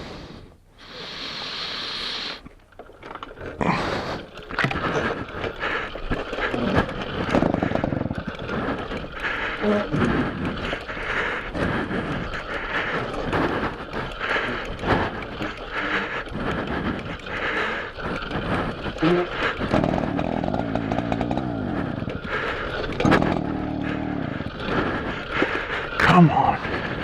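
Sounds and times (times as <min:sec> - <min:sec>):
moped engine starting: 0:01.6 - 0:27.0.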